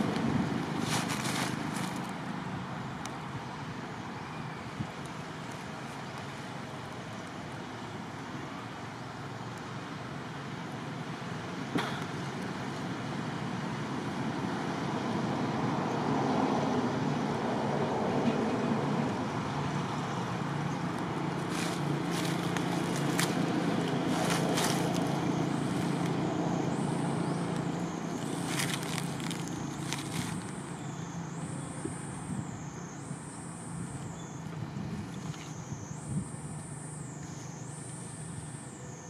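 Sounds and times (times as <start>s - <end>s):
outdoor background noise: 0.0s - 39.0s.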